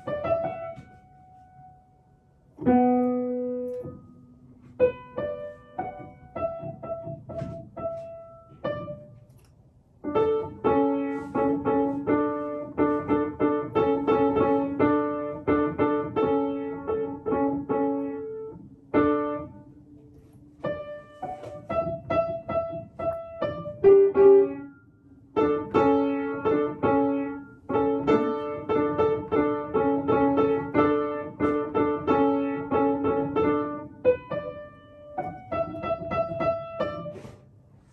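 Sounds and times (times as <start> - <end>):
child playing piano: 0.0 - 1.9, 2.5 - 9.3, 10.0 - 37.4.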